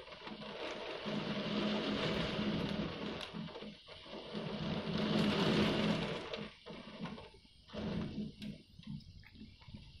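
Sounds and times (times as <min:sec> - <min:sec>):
heavy rain: 0:00.0 - 0:08.5.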